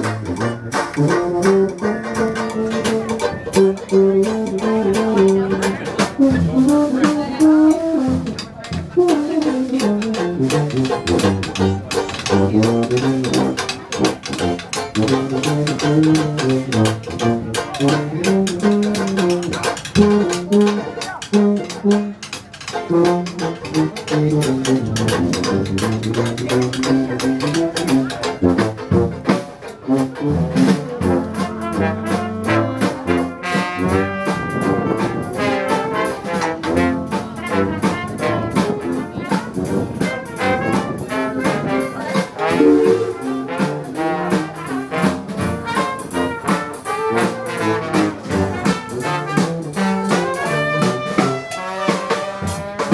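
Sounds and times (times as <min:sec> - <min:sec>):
jazz band playing live: 0:00.0 - 0:52.9.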